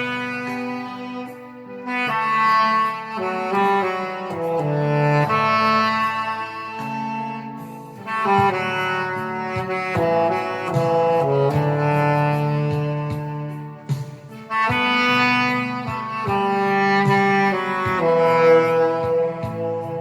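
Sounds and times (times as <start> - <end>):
backing track with steady beat: 0.0 - 20.0
saxophone melody: 0.0 - 20.0.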